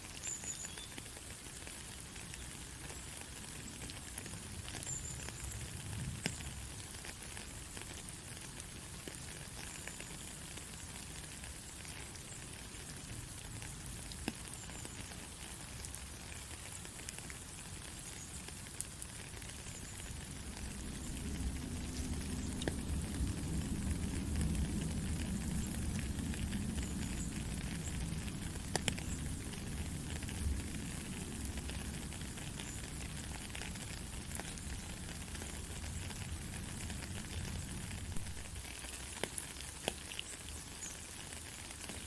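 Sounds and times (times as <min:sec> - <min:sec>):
rain pattering: 0:00.0 - 0:42.0.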